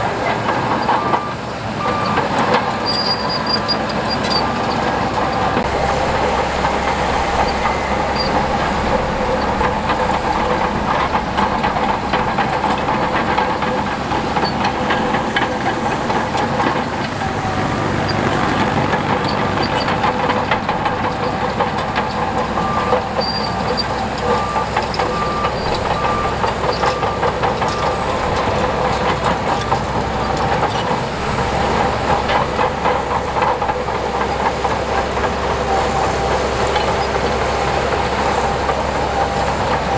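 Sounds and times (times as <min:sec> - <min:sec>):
diesel engine running: 0:00.0 - 0:39.9
steel tracks clanking: 0:00.0 - 0:39.9.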